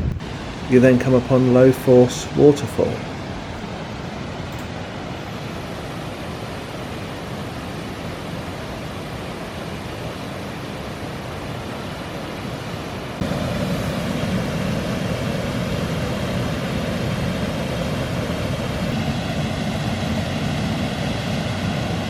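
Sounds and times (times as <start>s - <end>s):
waterfall rushing: 0.2s - 22.0s.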